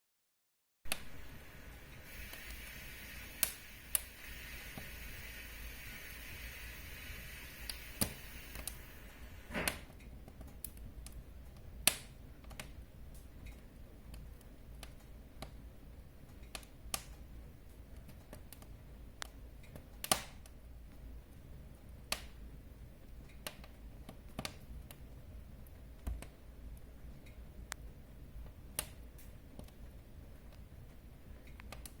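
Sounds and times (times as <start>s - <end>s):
faint low background noise: 0.9s - 32.0s
wood fire crackling: 0.9s - 32.0s.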